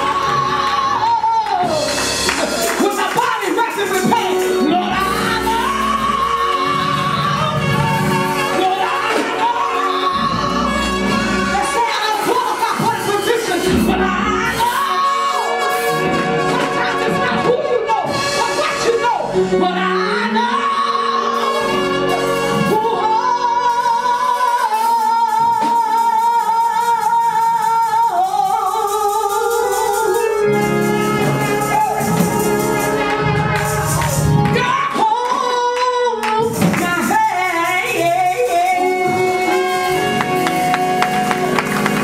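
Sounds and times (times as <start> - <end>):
woman singing gospel: 0.0 - 42.0.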